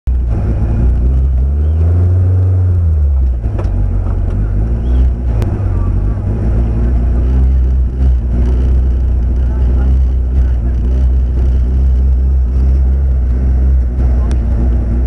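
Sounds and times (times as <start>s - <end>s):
car engine running: 0.1s - 15.0s.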